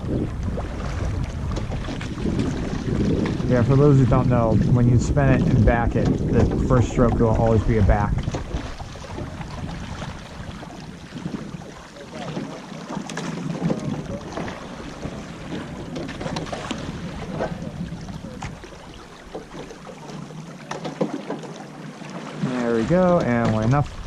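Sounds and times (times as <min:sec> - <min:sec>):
wind rumbling on microphone: 0:00.0 - 0:20.4, 0:22.4 - 0:24.0
oars working the water: 0:00.0 - 0:24.0.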